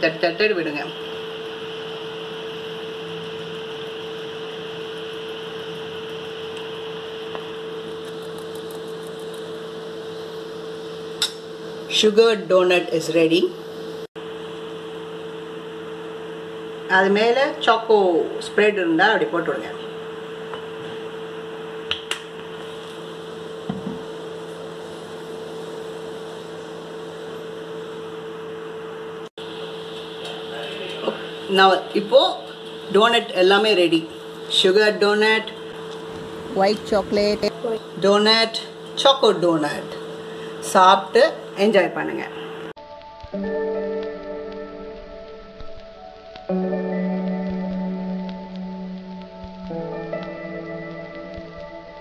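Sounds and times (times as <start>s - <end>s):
machine hum with steady tone: 0.0s - 52.0s.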